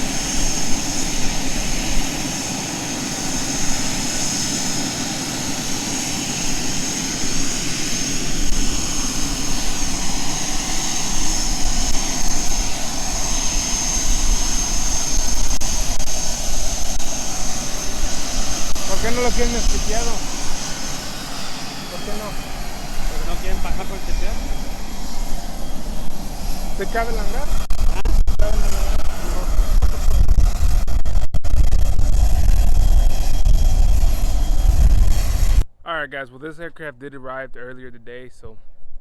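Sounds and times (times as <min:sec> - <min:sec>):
aircraft engines rumbling: 0:00.0 - 0:35.7
high engine whine: 0:00.0 - 0:35.7.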